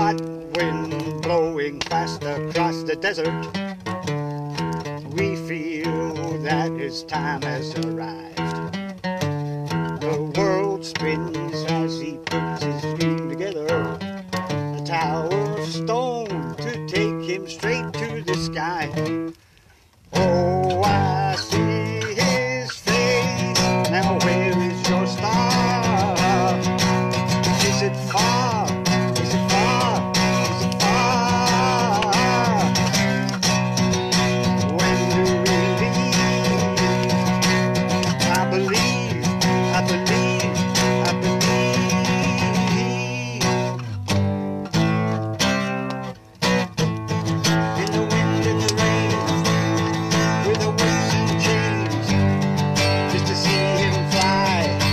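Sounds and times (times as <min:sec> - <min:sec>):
man singing: 0:00.0 - 0:08.8, 0:09.7 - 0:19.3, 0:20.1 - 0:44.0, 0:47.1 - 0:54.9
acoustic guitar strumming: 0:00.0 - 0:54.9.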